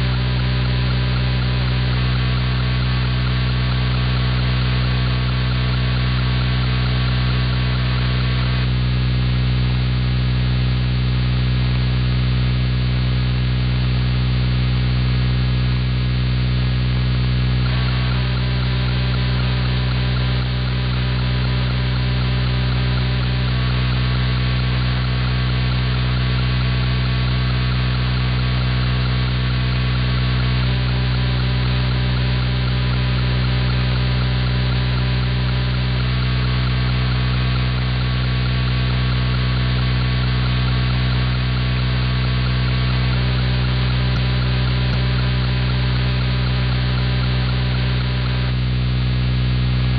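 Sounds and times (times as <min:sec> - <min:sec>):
radio hum and buzz: 0:00.0 - 0:49.9
radio static: 0:00.0 - 0:49.9.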